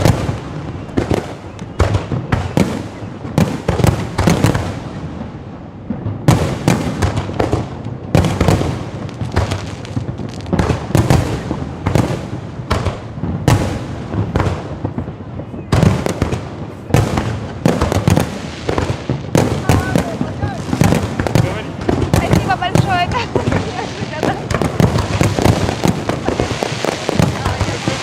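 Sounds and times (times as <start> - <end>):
fireworks bangs with echo: 0.0 - 28.0.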